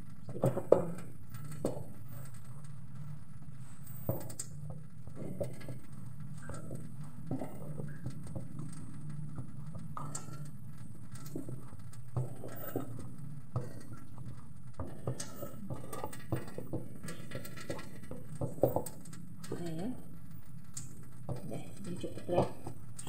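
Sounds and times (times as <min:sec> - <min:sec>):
hands kneading dough mixture: 0:00.0 - 0:23.0
low hum: 0:00.0 - 0:23.0.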